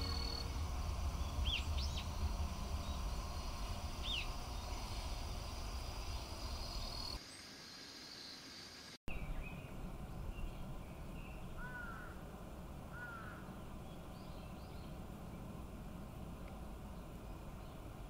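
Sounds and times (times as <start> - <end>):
low rumble and hiss: 0.0 - 7.2, 9.1 - 18.0.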